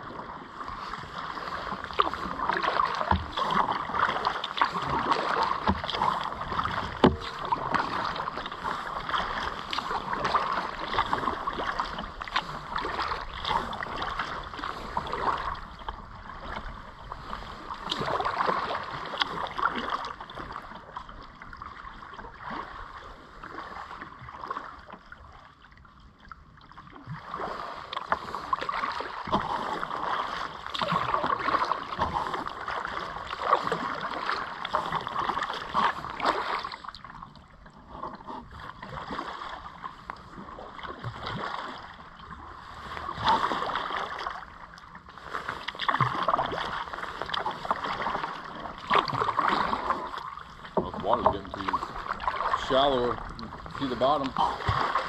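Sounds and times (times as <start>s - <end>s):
kayak paddles splashing: 0.0s - 55.0s
water moving past hull: 0.0s - 55.0s.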